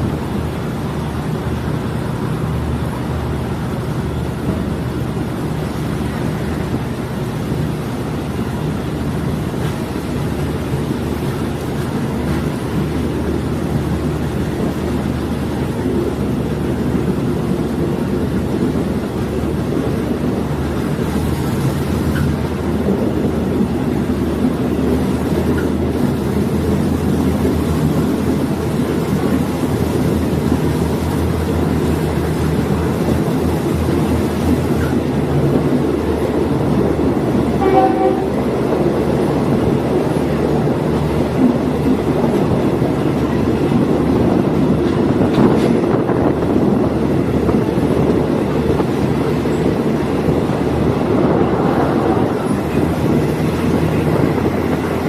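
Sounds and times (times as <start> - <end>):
railcar engine and rail rumble: 0.0 - 55.0.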